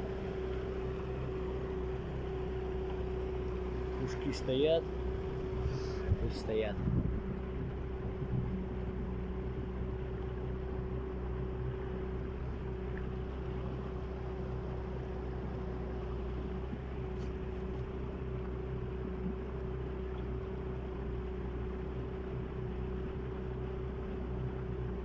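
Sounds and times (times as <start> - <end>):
boat motor droning: 0.0 - 25.0.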